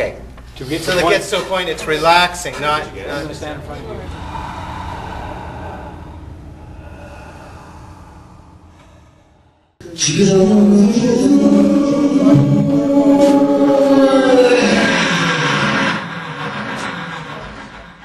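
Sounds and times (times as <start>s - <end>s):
chant-like vocal drone: 3.1s - 18.0s.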